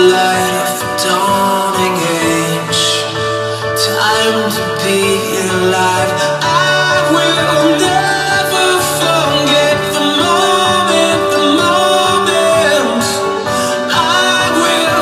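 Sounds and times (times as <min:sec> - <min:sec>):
guitar and backing instruments: 0:00.0 - 0:15.0
person singing: 0:00.0 - 0:15.0.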